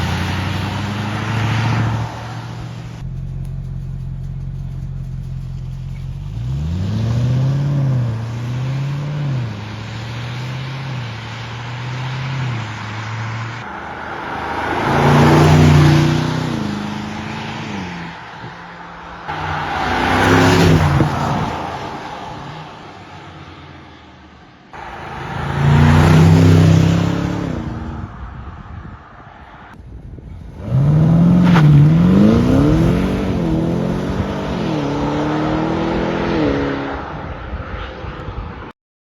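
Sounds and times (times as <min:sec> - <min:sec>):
car accelerating: 0:00.0 - 0:28.3, 0:30.5 - 0:37.8
car engine idling and revving: 0:00.0 - 0:38.6.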